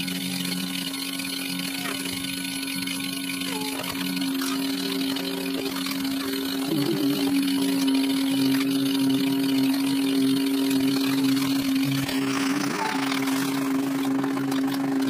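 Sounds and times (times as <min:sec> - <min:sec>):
sped-up buzzing drone: 0:00.0 - 0:15.0.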